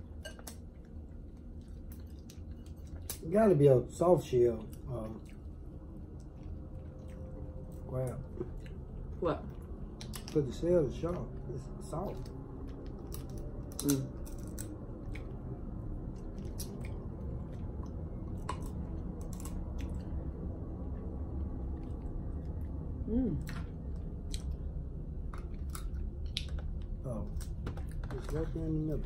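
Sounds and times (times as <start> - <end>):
people chewing: 0.0 - 3.7, 4.3 - 10.6, 11.4 - 29.0
steady low hum: 0.0 - 29.0.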